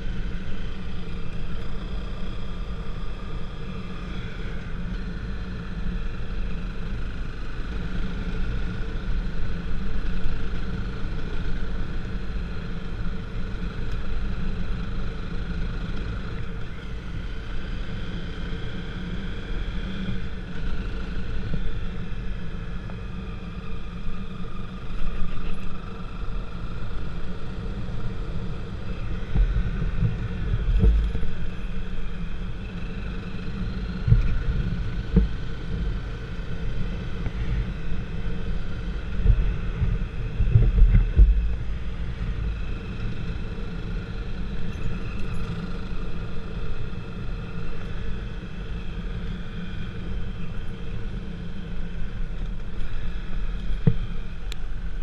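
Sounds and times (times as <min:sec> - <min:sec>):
faint steady whine: 0:00.0 - 0:55.0
vehicle road rumble: 0:00.0 - 0:55.0.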